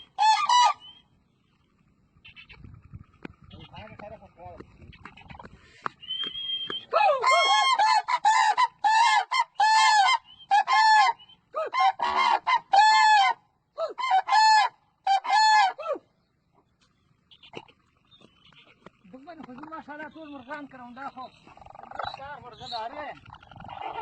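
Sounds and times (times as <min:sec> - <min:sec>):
cranes calling: 0:00.0 - 0:24.0.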